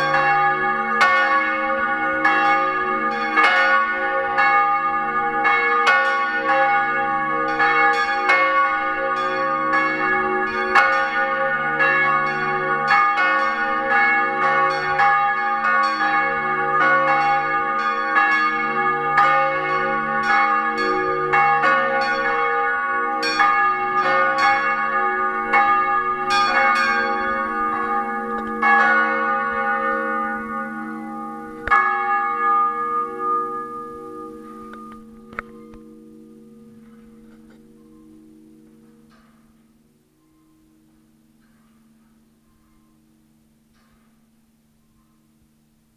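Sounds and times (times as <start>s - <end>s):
church bells ringing: 0.0s - 45.4s.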